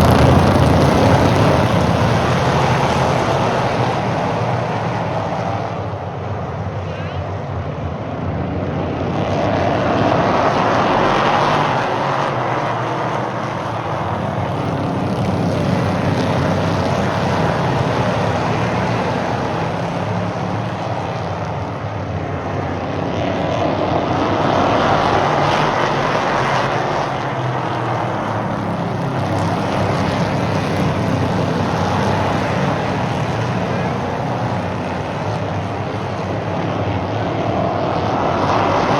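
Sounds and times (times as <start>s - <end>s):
race car engines passing: 0.0s - 7.6s, 8.6s - 38.9s.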